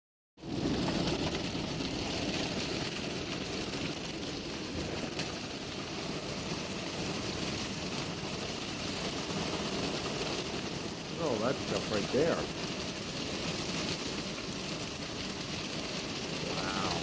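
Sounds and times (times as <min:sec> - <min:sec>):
hailstones pelting down: 0:00.4 - 0:17.0.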